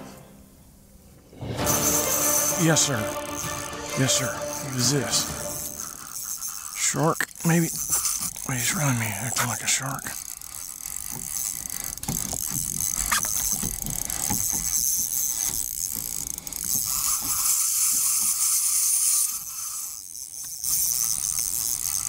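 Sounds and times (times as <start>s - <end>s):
reel high whine: 0.0s - 22.0s
fishing reel clicking and whirring: 1.6s - 22.0s.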